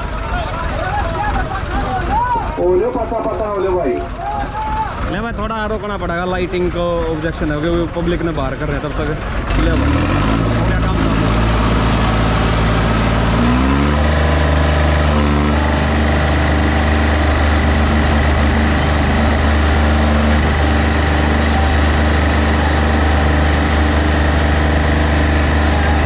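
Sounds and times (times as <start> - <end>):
tractor diesel engines revving: 0.0 - 26.0.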